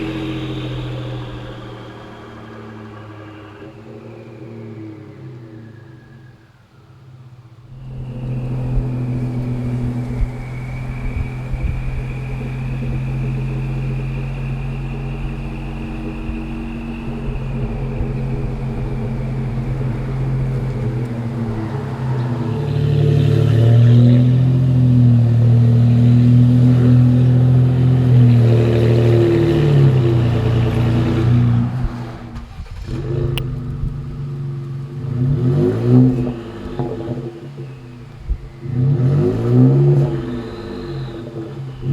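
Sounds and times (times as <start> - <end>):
truck engine with turbo whistle: 0.0 - 41.9.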